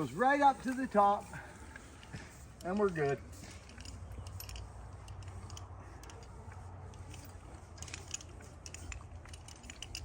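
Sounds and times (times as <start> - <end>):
metallic clinks and handling: 1.8 - 10.0.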